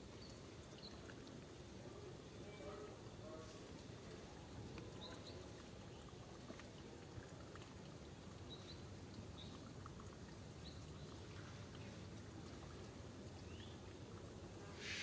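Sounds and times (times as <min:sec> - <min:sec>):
low background hiss and rumble: 0:00.0 - 0:15.0.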